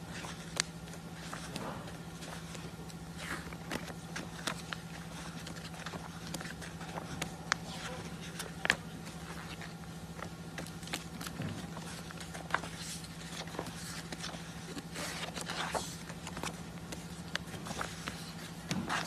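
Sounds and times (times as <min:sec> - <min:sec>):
pages being turned: 0:00.0 - 0:19.0
steady low hum: 0:00.0 - 0:19.0.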